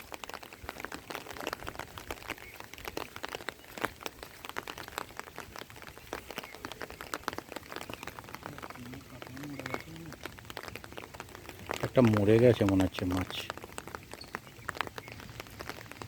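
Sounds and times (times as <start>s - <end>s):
rain drops ticking: 0.0s - 16.0s
steady rain hiss: 0.0s - 16.0s.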